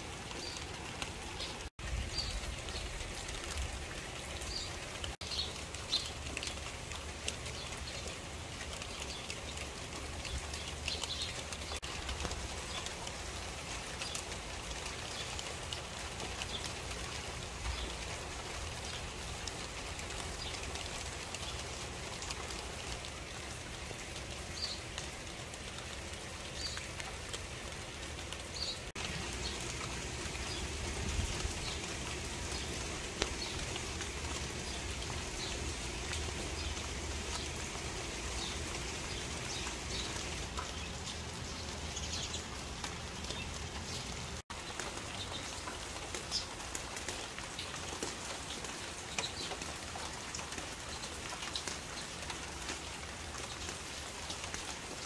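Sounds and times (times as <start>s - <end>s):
rain falling on leaves and tiles: 0.0s - 55.0s.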